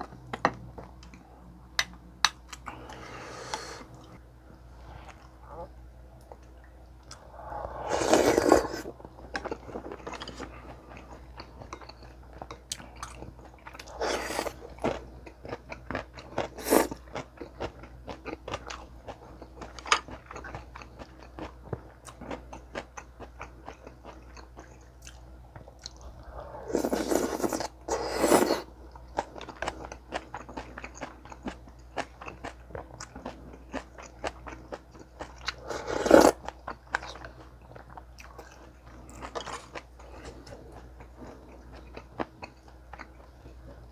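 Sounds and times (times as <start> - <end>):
close chewing with crunchy bites: 8.0 - 43.9.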